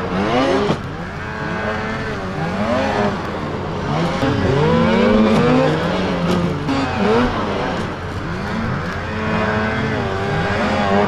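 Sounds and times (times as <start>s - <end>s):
snowmobile engines revving: 0.0s - 11.0s.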